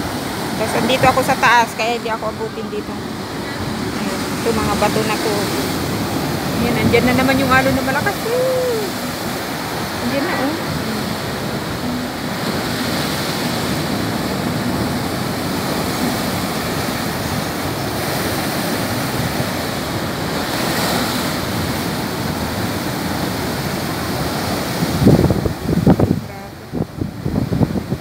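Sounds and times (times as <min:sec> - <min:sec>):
sea surf breaking on rocks: 0:00.0 - 0:28.0
wind buffeting microphone: 0:00.0 - 0:28.0.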